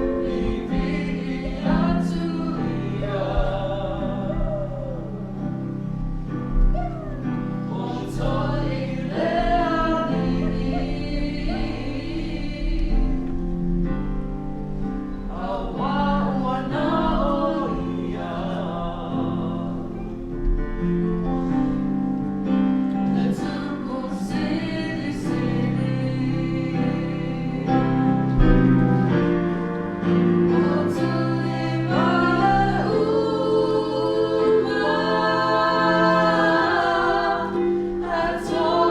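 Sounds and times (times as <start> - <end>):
group singing in harmony: 0.0 - 38.9.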